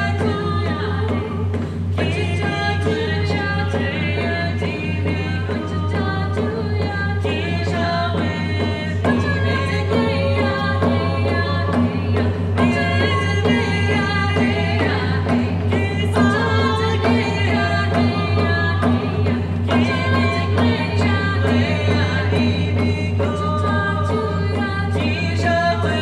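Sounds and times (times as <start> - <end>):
hand drums beating: 0.0 - 26.0
women singing together: 0.0 - 26.0.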